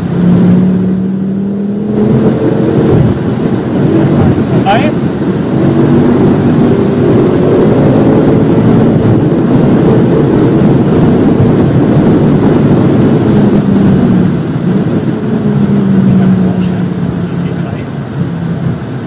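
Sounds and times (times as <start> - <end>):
car engine pulling hard: 0.0 - 19.0.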